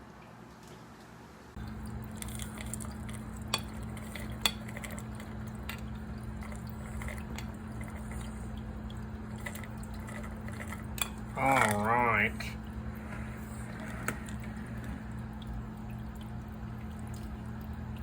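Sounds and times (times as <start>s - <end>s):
steady low hum: 1.4s - 18.0s.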